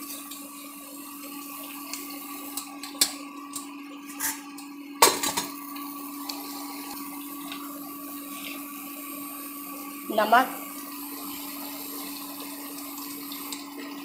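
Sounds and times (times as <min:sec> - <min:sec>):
induction cooktop humming: 0:00.0 - 0:14.0.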